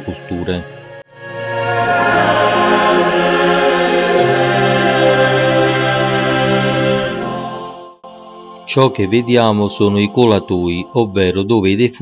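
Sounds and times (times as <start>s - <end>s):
choral music: 0.0s - 12.0s.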